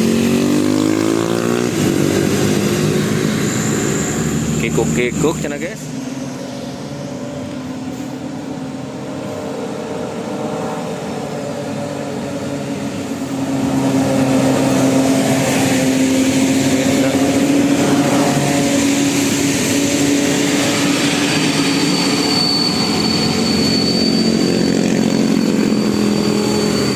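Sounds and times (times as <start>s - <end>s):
thin high whine: 0.0s - 26.9s
vehicle engine running: 0.0s - 26.9s.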